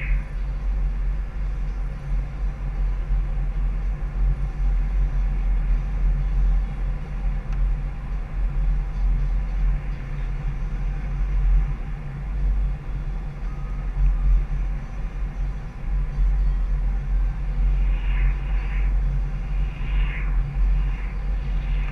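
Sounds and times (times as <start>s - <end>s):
car road noise: 0.0s - 21.9s
wind noise: 0.0s - 21.9s.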